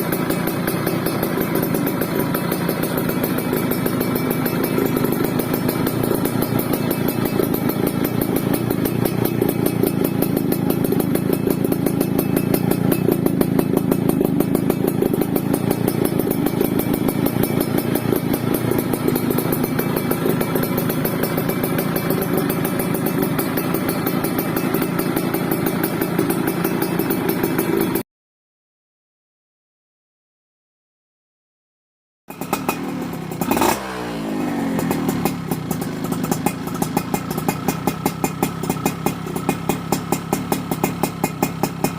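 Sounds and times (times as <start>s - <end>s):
motorcycle engine idling: 0.0s - 28.0s, 32.3s - 41.9s.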